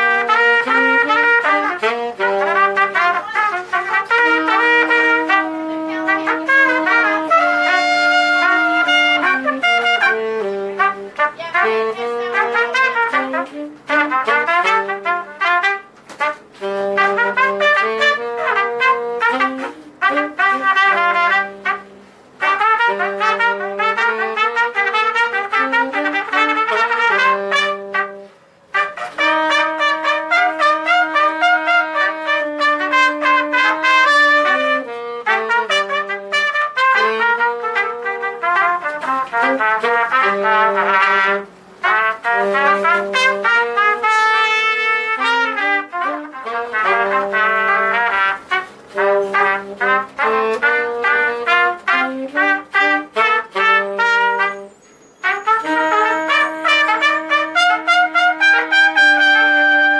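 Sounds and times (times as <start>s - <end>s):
low saxophone notes: 0.0s - 59.9s
trumpets playing: 0.0s - 59.9s.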